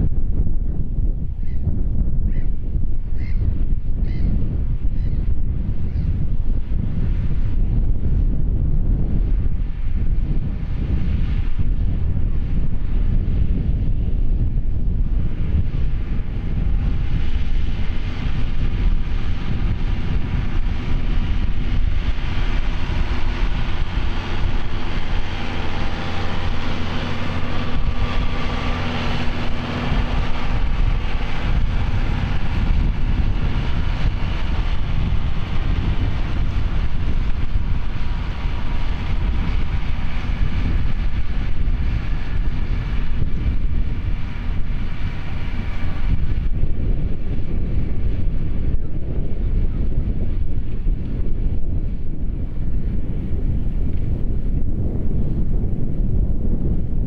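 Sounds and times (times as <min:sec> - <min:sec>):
wind on microphone: 0:00.0 - 0:57.0
tractor diesel engine running: 0:04.4 - 0:57.0.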